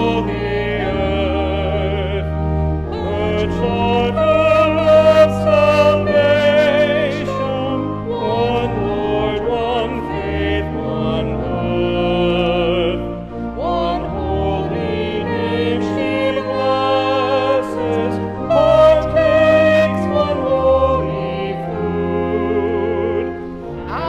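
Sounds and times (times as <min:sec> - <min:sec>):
organ chords: 0:00.0 - 0:24.0
voices singing a hymn: 0:00.0 - 0:24.0.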